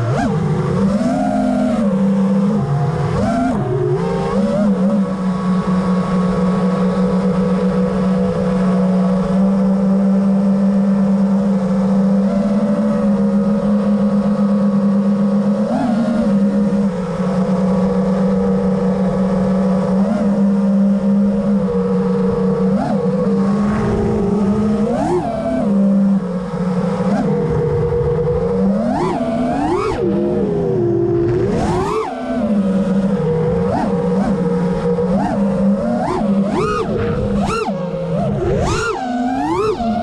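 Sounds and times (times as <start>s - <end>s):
quadcopter motors whining: 0.0s - 40.0s.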